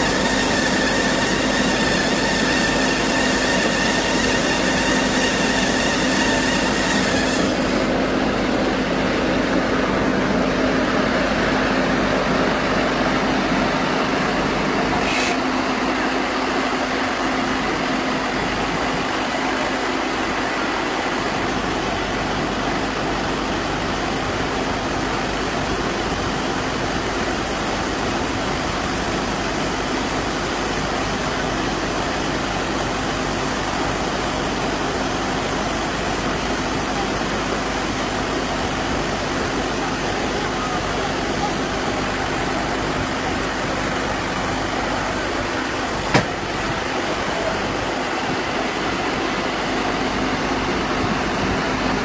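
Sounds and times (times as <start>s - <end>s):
baler machine running: 0.0s - 52.0s.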